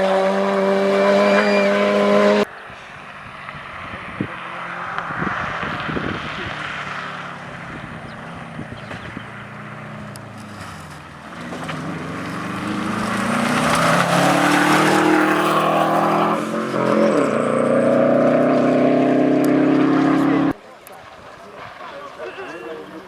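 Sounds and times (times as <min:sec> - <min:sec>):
rally car engine accelerating: 0:00.0 - 0:02.5, 0:03.4 - 0:20.6.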